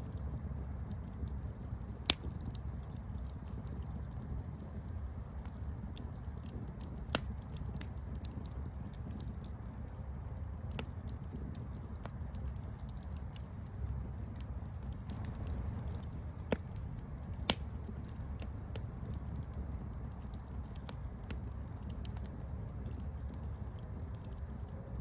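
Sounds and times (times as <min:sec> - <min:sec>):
campfire rumbling and crackling: 0:00.0 - 0:25.0
loud fire pops: 0:00.5 - 0:25.0.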